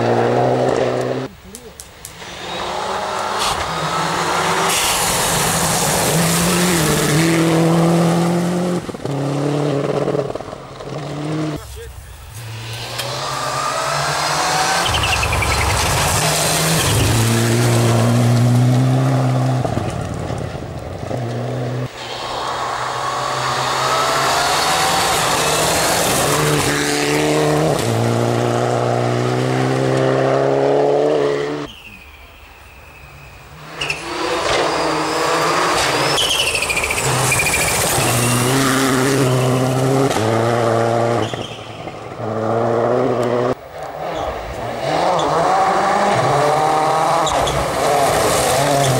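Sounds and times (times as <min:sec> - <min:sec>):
rally car engines accelerating: 0:02.2 - 0:31.7, 0:33.5 - 0:48.9.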